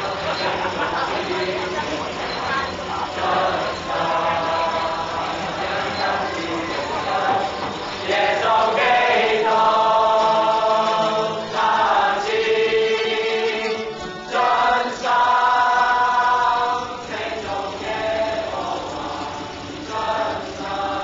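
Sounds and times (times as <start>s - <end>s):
group singing worship song: 0.0s - 21.0s.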